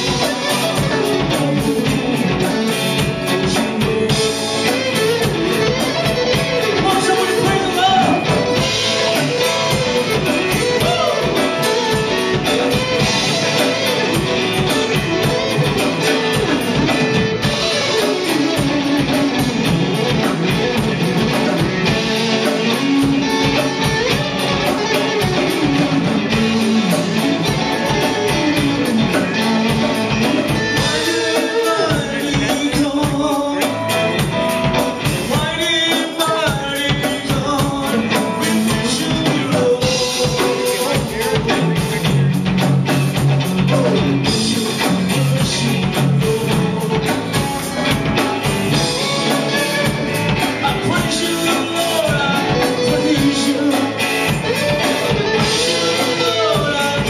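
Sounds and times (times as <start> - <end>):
man singing: 0.0 - 42.7, 43.6 - 57.0
rock electric guitar: 0.0 - 57.0
steady drum beat: 0.0 - 57.0.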